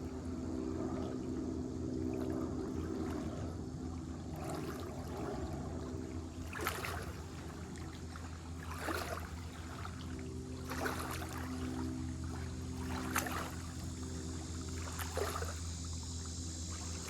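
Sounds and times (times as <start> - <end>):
steady low hum: 0.0 - 17.0
water splashing and sloshing: 0.0 - 17.0.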